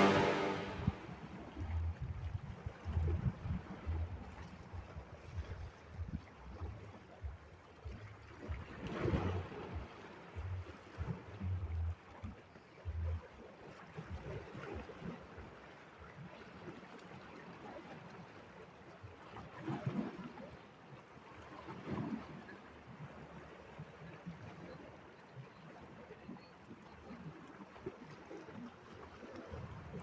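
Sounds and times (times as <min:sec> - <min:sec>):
water lapping: 0:03.6 - 0:30.0.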